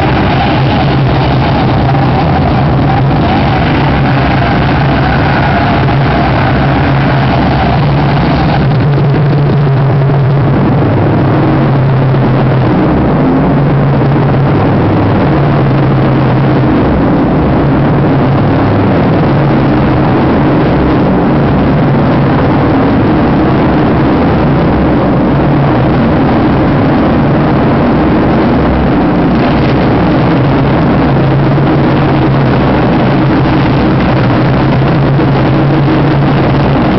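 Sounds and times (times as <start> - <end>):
harsh distorted noise: 0.0 - 36.9
low droning hum: 0.0 - 36.9.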